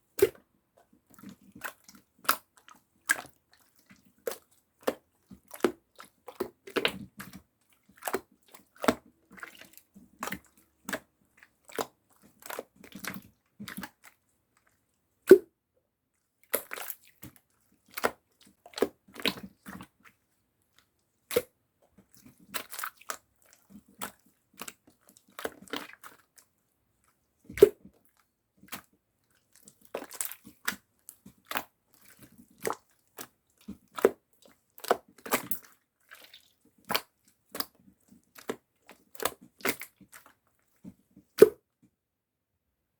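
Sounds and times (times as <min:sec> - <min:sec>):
wet squish: 0:01.1 - 0:15.5, 0:16.4 - 0:41.6.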